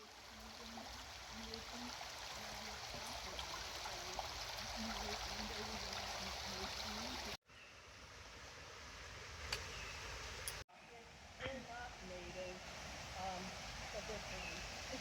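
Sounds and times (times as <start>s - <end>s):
running water: 0.0s - 7.4s, 10.3s - 15.0s.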